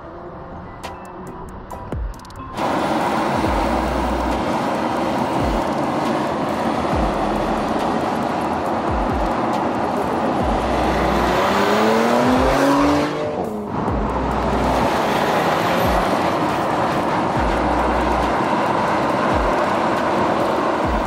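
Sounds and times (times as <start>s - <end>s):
road and tyre noise: 0.0s - 21.0s
car engine running hard: 2.6s - 21.0s.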